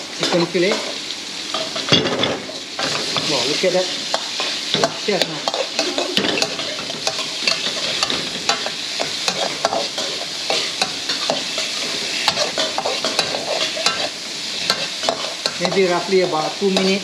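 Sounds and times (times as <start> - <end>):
food sizzling in oil: 0.0 - 17.0
spatula scraping and clacking wok: 0.0 - 17.0.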